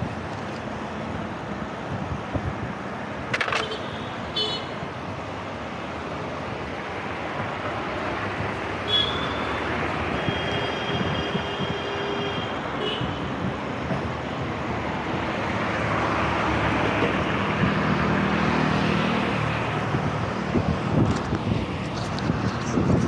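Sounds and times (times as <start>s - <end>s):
cars passing close by: 0.0s - 23.0s
steady rush of traffic: 0.0s - 23.0s.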